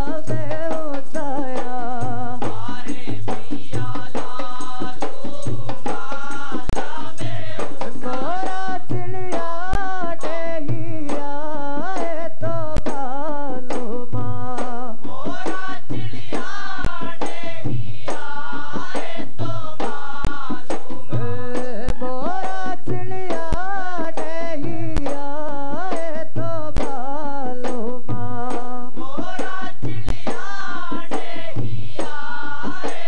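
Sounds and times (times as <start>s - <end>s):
hand drums beating: 0.0s - 33.0s.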